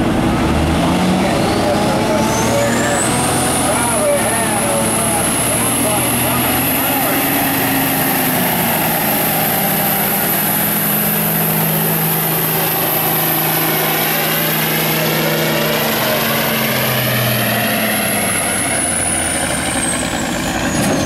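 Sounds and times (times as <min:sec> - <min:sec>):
diesel truck engine running hard: 0:00.0 - 0:21.0.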